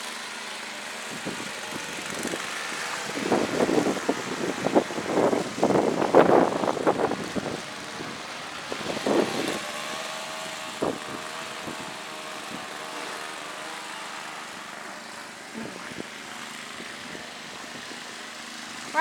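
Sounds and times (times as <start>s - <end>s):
snow blower engine running: 0.0s - 19.0s.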